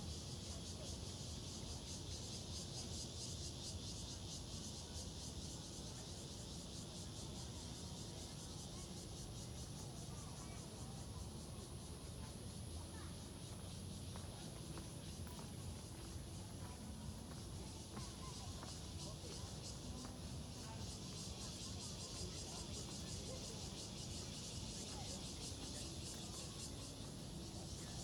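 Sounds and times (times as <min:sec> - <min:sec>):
insects chirping: 0:00.2 - 0:28.0.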